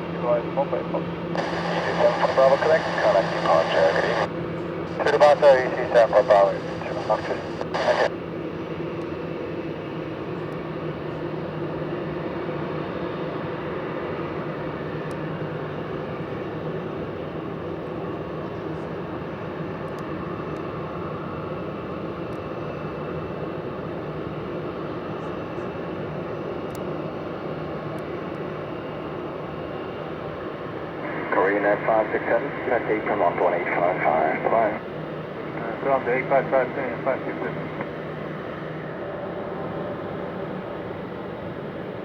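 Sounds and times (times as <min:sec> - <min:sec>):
jet engines droning: 0:00.0 - 0:42.0.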